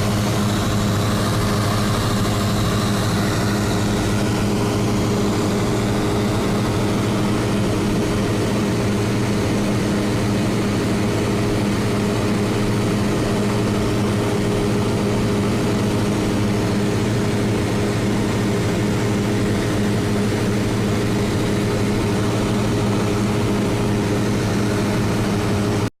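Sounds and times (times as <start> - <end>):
piston aircraft engine droning: 0.0 - 25.9.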